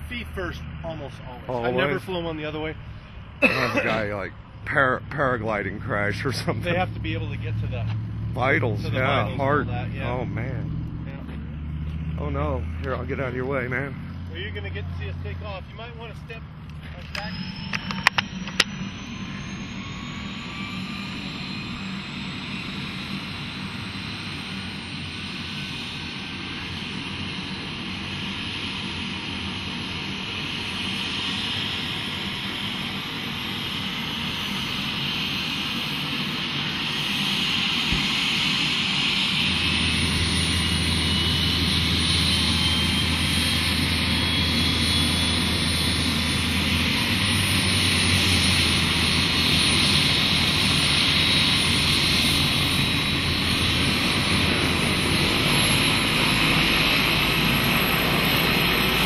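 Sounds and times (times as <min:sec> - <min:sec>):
deep rotor hum: 0:00.0 - 0:59.0
helicopter turbine whine: 0:00.0 - 0:59.0.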